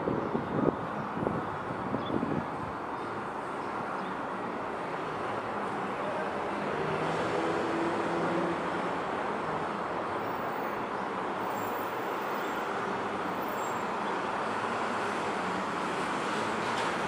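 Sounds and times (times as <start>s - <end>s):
traffic rushing: 0.0s - 17.0s.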